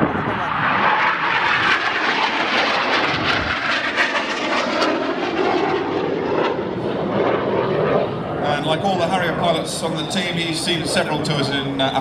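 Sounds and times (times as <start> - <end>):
jet noise in flight: 0.0 - 12.0.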